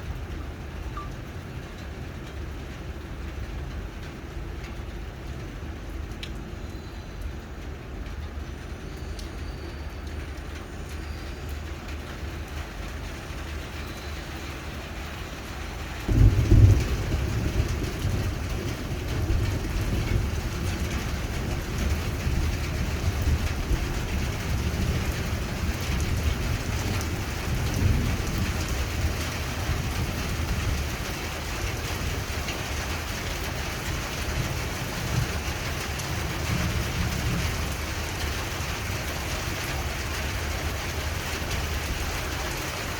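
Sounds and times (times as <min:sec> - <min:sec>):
rain on a rooftop: 0:00.0 - 0:42.9.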